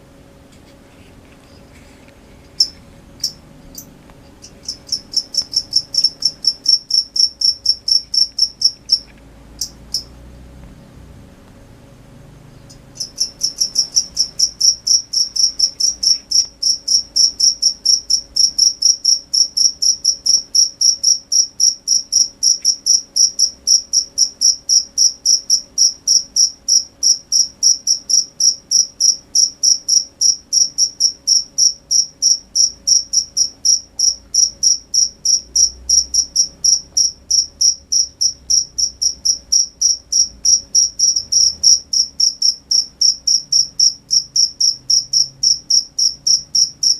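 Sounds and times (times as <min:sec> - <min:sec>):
cricket chirping: 0:02.6 - 0:10.2, 0:12.5 - 0:46.9.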